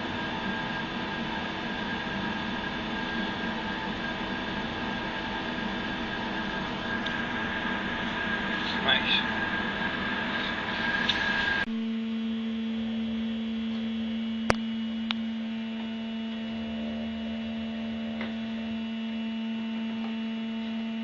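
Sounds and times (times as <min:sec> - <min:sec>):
noisy machine: 0:00.0 - 0:21.0
steady electrical hum: 0:00.0 - 0:21.0.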